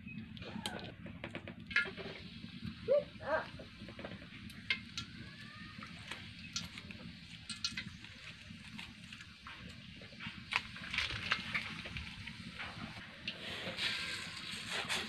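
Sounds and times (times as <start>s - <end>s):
spices sizzling in hot oil: 1.6s - 15.0s.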